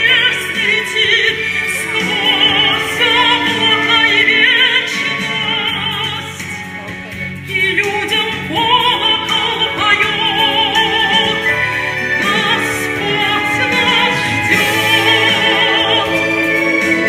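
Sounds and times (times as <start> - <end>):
woman singing operatically: 0.0 - 6.6, 7.5 - 17.0
instrumental accompaniment: 0.0 - 17.0.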